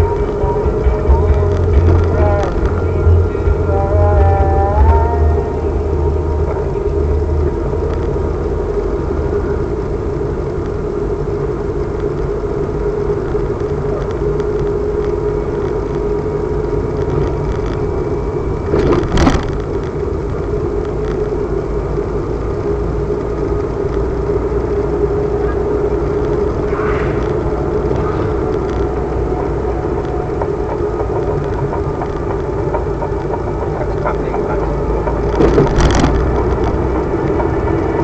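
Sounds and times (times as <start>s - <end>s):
car engine hum: 0.0s - 38.0s
road rumble: 0.0s - 38.0s.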